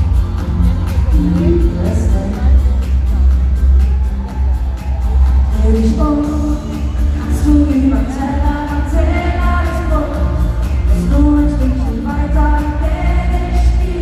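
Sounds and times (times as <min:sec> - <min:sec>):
person singing: 0:00.0 - 0:03.2, 0:05.4 - 0:14.0
heavy bass beat: 0:00.0 - 0:14.0.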